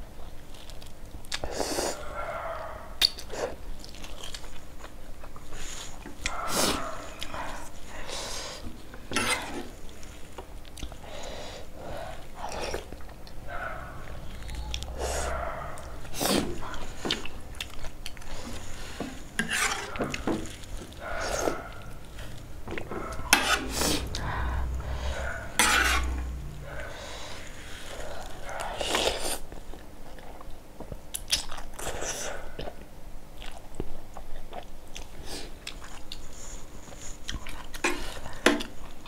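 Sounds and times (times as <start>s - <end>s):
chewing: 0.4s - 11.1s, 11.8s - 39.0s.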